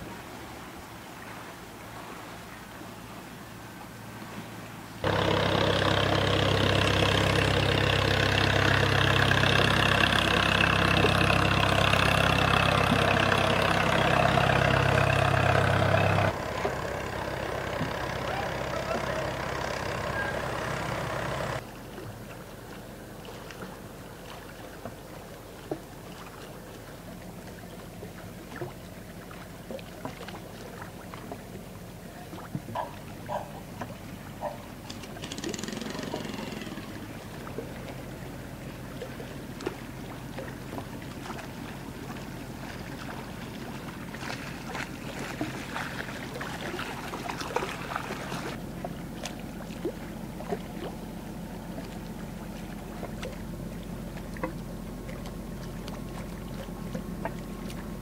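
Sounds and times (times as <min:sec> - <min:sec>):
ship engine drone: 0:03.0 - 0:24.2, 0:32.8 - 0:58.0.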